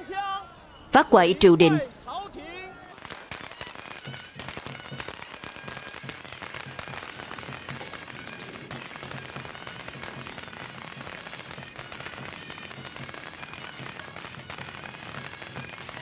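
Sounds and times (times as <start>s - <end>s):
firecrackers crackling: 3.0s - 16.0s.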